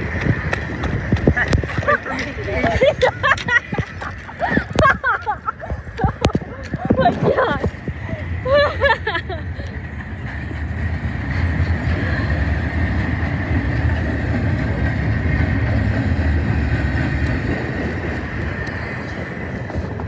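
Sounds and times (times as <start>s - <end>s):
steel wheels rumbling on rail: 0.0s - 20.0s.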